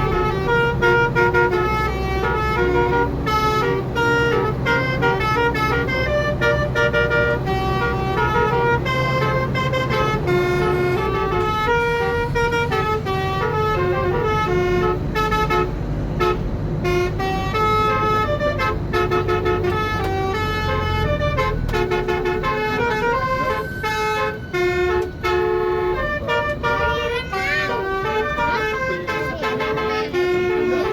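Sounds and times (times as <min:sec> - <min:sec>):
bus engine rumble: 0:00.0 - 0:30.9
musical air horn tune: 0:00.0 - 0:30.9.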